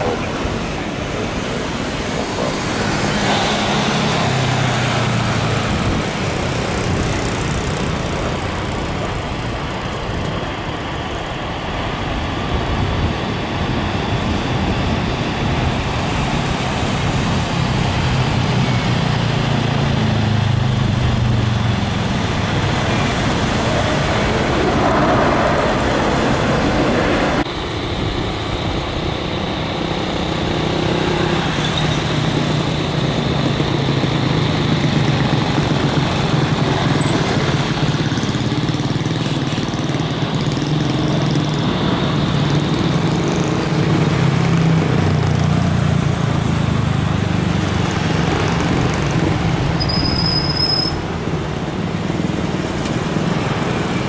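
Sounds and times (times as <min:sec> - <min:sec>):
jet engine hum on approach: 0:00.0 - 0:54.0
jet engine landing roar: 0:00.0 - 0:54.0.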